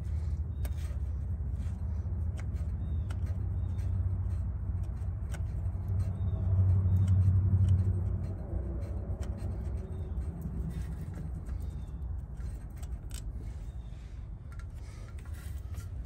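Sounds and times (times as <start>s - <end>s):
light clicks of metal parts: 0.0s - 16.0s
steady low rumble: 0.0s - 16.0s.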